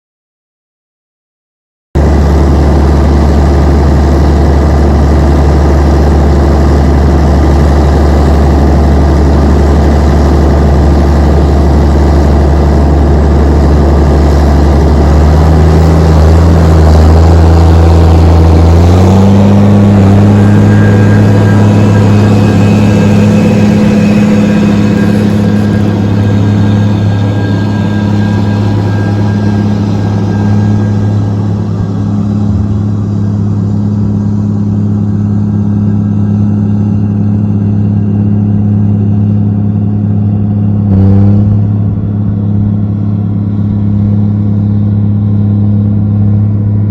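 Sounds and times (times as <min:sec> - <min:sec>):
diesel tractor engine under load: 0:02.0 - 0:46.9.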